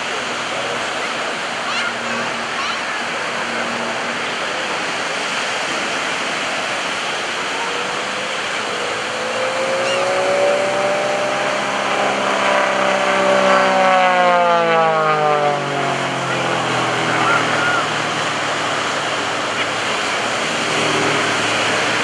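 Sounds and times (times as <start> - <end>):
beach surf rushing: 0.0 - 22.0
propeller plane engine droning: 0.0 - 22.0.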